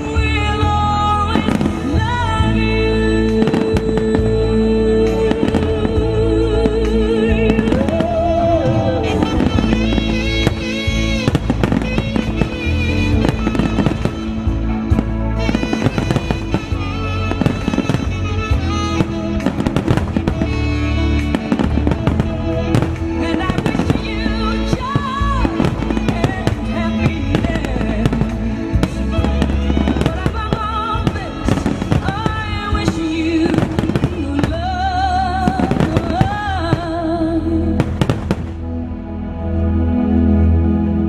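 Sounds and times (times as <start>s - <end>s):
music playing: 0.0s - 41.0s.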